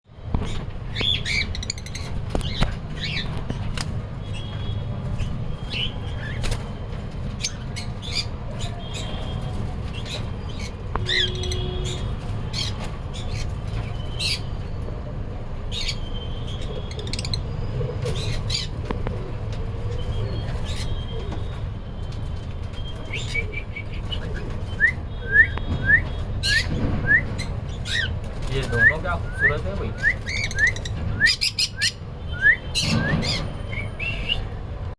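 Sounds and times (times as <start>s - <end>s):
conures chirping: 0.4s - 15.0s, 15.7s - 21.6s, 22.7s - 34.6s.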